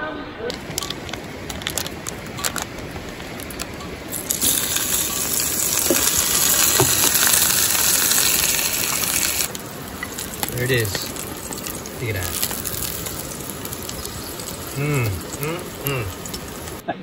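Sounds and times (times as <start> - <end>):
plastic package crinkling: 0.5 - 16.6
sausages sizzling in a frying pan: 0.5 - 16.8.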